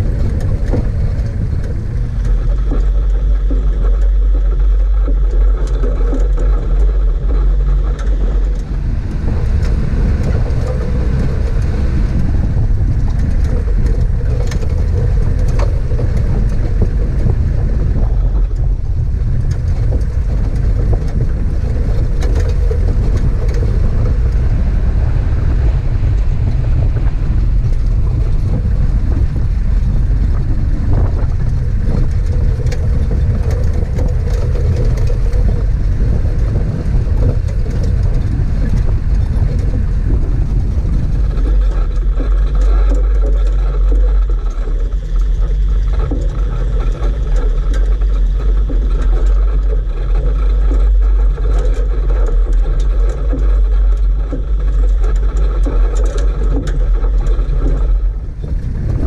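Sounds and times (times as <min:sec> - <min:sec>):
knocks and rattles from bumps: 0:00.0 - 0:59.0
vehicle engine and tyres rumbling: 0:00.0 - 0:59.0.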